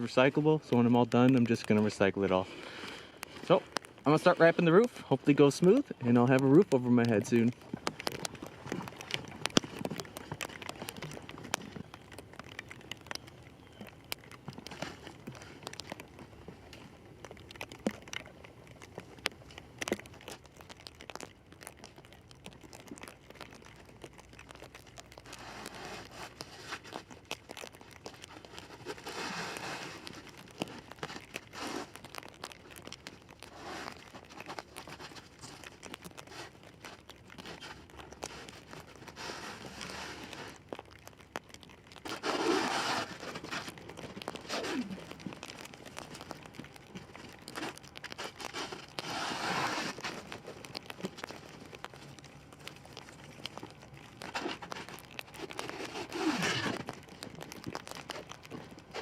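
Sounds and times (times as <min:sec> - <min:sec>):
plastic film crinkling: 0:00.0 - 0:59.0.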